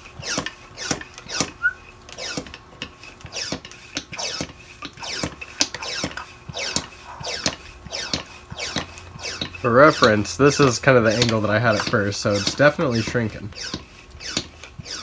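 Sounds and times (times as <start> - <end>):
hand pump squeaky whistle: 0.3 - 2.5, 3.3 - 15.0.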